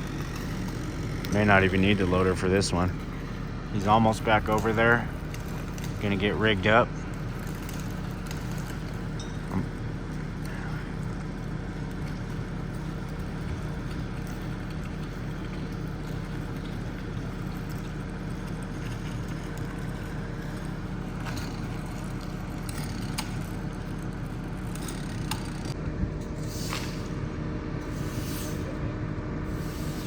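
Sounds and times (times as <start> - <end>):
heavy equipment engine droning: 0.0 - 30.0.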